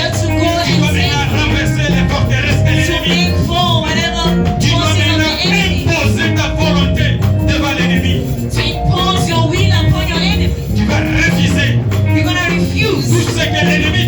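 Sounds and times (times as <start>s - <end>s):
band with bass line: 0.0s - 14.0s.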